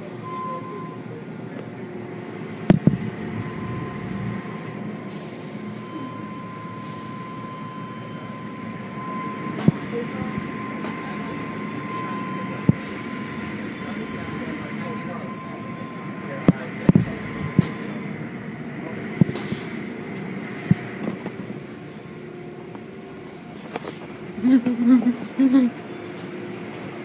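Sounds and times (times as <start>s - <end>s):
thin steady whine: 2.2s - 25.7s.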